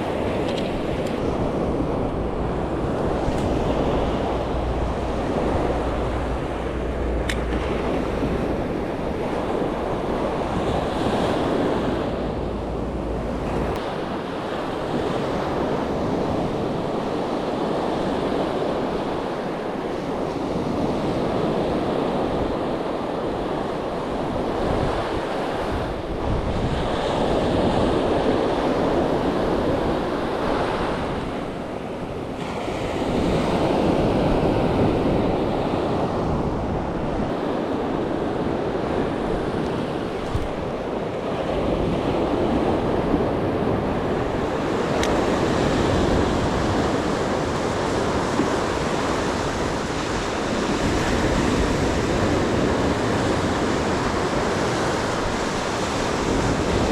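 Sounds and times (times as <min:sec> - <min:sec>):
sea surf washing onto beach: 0:00.0 - 0:56.9
wind buffeting microphone: 0:00.0 - 0:56.9.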